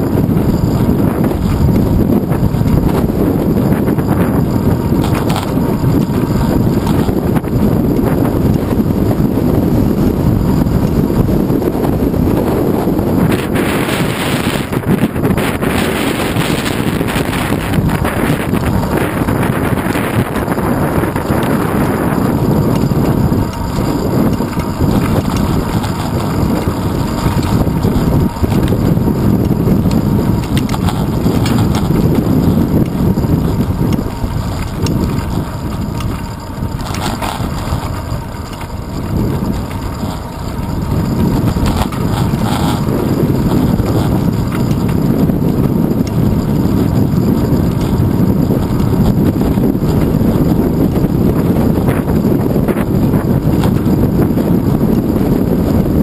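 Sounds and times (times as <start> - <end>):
road noise: 0.0 - 56.0
wind rumbling on microphone: 0.0 - 56.0.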